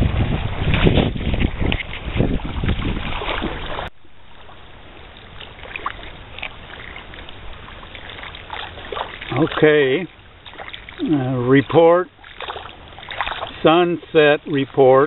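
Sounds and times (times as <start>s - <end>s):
wind and water on microphone: 0.0s - 15.0s.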